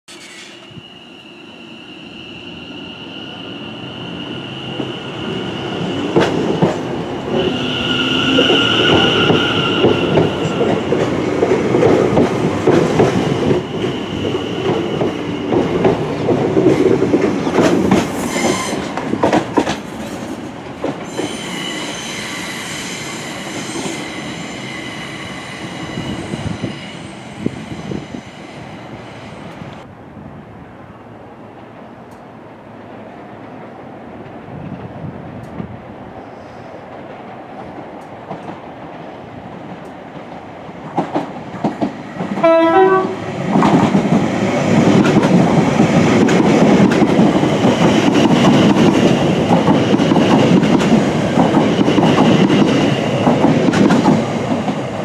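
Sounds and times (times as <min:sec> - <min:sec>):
train passing: 0:00.1 - 0:55.0.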